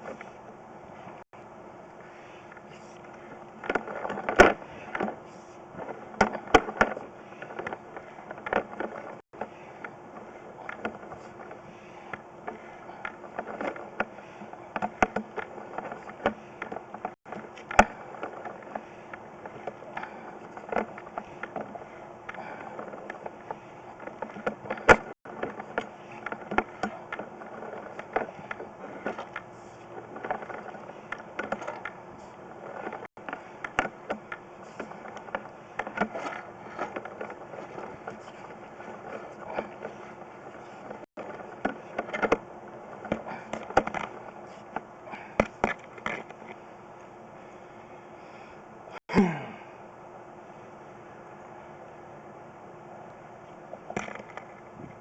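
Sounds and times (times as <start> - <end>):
cable scraping in pipe: 2.0 - 46.6.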